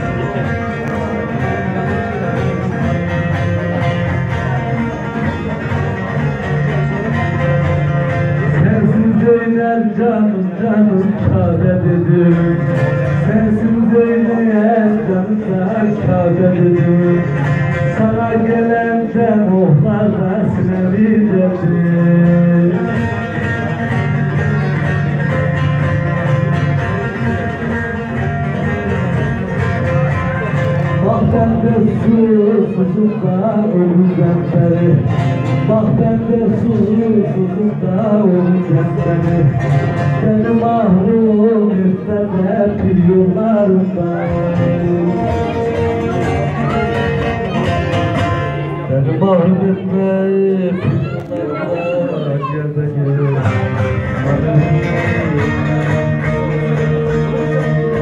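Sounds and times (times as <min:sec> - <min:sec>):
plucked long-necked lute melody: 0:00.0 - 0:58.0.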